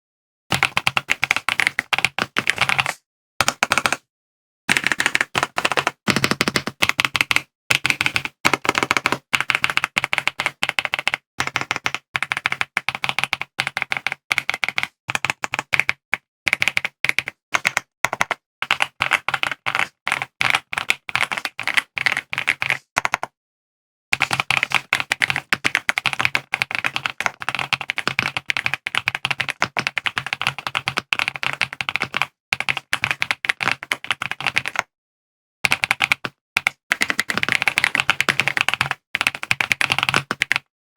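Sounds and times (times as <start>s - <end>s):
fast typing on mechanical keyboard: 0.5s - 4.0s, 4.7s - 23.3s, 24.2s - 34.9s, 35.6s - 40.7s.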